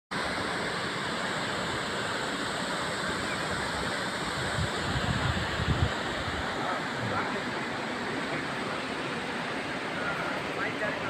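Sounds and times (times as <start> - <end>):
waterfall rushing into pool: 0.1 - 11.0.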